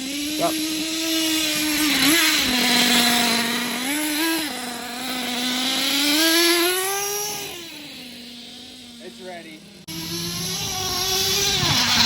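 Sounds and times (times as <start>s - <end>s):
small rc truck engine running: 0.0s - 12.0s.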